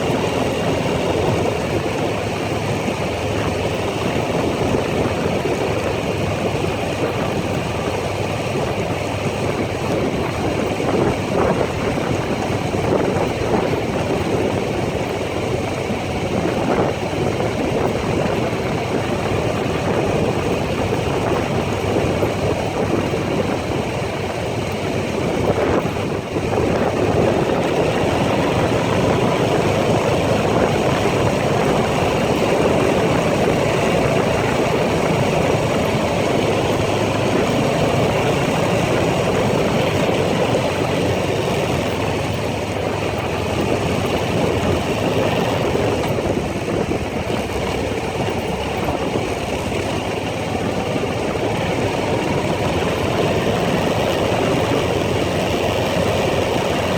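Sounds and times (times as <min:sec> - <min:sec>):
atv engine running: 0:00.0 - 0:56.9.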